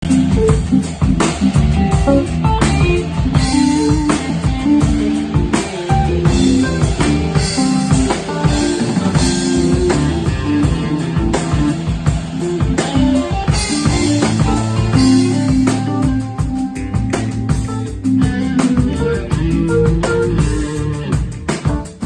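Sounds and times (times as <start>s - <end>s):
drum kit hits: 0.0s - 22.0s
guitar playing: 0.0s - 22.0s.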